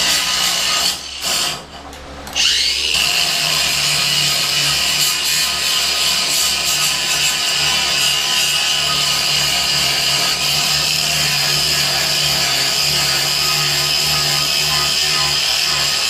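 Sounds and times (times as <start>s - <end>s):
angle grinder grinding steel: 0.0s - 16.0s.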